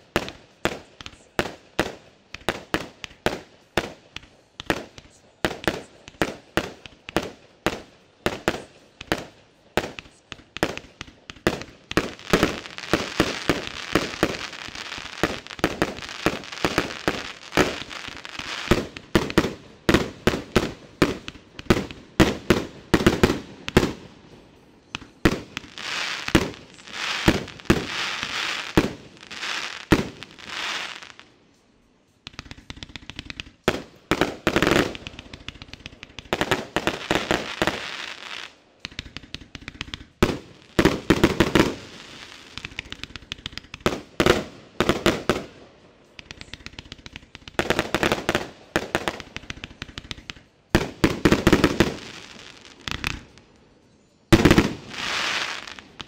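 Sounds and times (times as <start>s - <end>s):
fireworks shots and bursts: 0.0s - 31.4s, 32.2s - 53.6s, 54.3s - 56.0s
crackling firework stars: 0.0s - 56.0s.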